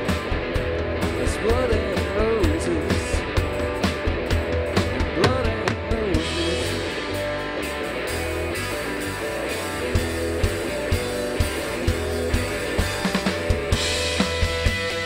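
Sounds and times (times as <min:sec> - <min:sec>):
drum kit: 0:00.0 - 0:15.0
electric bass: 0:00.0 - 0:15.0
electric guitar: 0:00.0 - 0:15.0
guitar lead with bent notes: 0:00.0 - 0:15.0.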